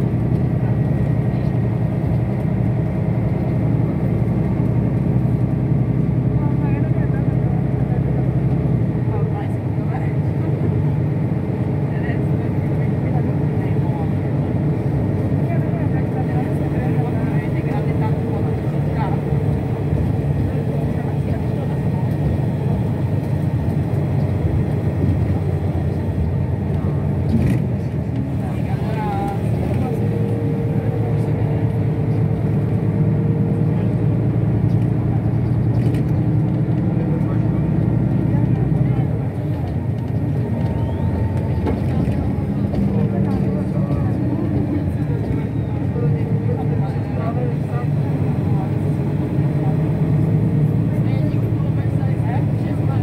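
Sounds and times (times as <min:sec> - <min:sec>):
shuttle bus engine rumble: 0:00.0 - 0:53.0.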